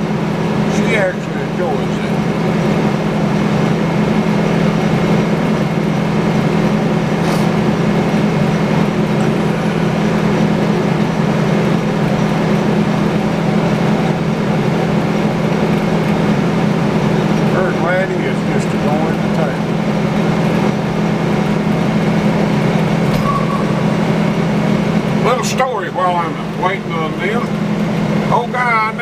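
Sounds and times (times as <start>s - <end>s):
sawmill engine humming: 0.0s - 29.0s.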